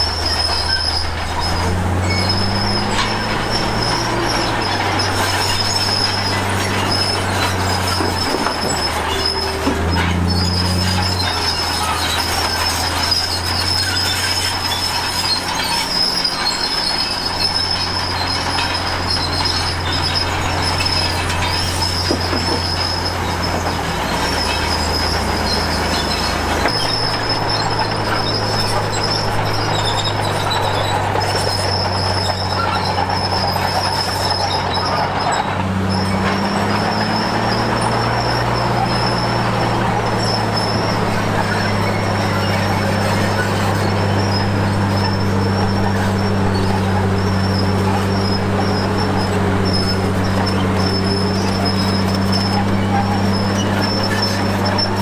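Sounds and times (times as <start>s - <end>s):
bulldozer diesel engine running: 0.0s - 55.0s
steel tracks squealing and rattling: 0.0s - 55.0s.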